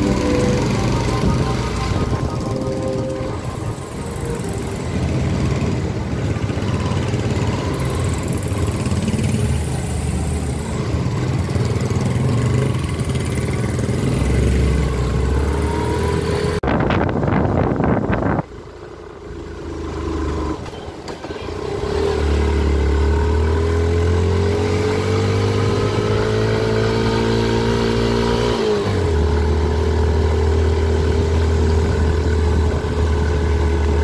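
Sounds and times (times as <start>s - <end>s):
motorcycle engine: 0.0s - 16.6s, 18.6s - 34.0s.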